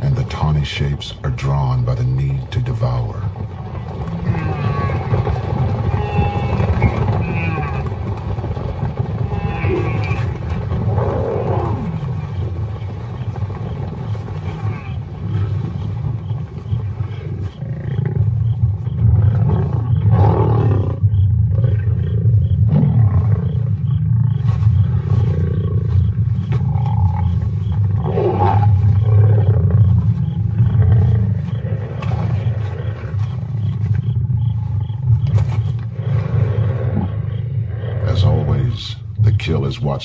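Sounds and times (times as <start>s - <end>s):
lions growling: 0.0s - 40.0s
lions snarling: 2.2s - 39.6s.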